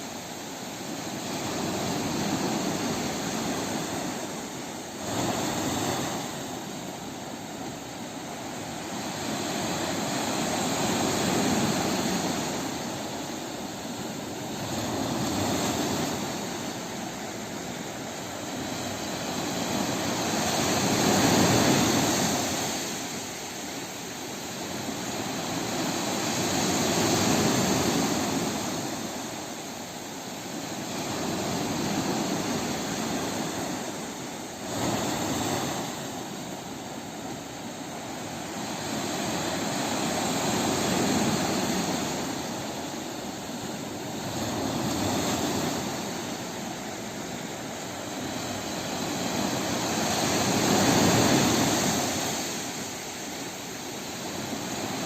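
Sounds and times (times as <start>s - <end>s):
sea waves washing ashore: 0.0s - 55.0s.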